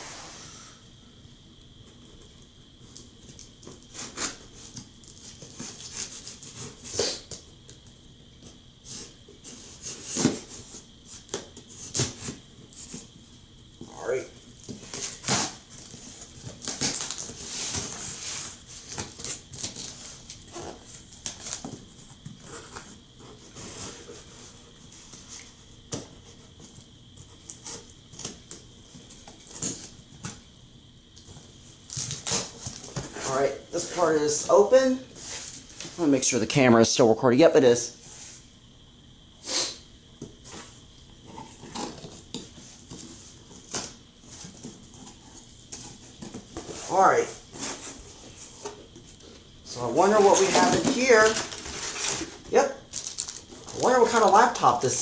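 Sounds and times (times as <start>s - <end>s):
tape and cardboard rustling: 1.8s - 30.4s, 31.2s - 36.0s, 40.2s - 54.6s.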